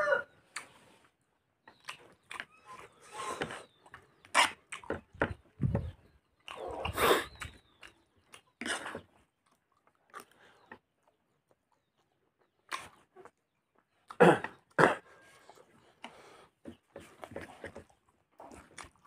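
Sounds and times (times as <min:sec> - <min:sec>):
wet chewing and lip smacking: 0:00.4 - 0:01.0, 0:01.6 - 0:19.0.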